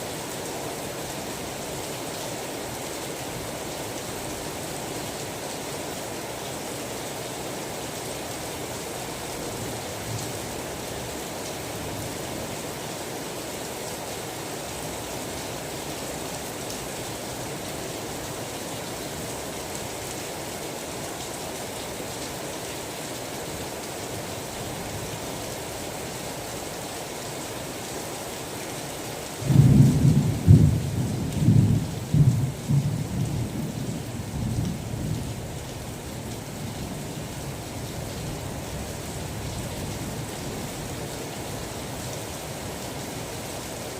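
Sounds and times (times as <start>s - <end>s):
rain hiss: 0.0s - 43.9s.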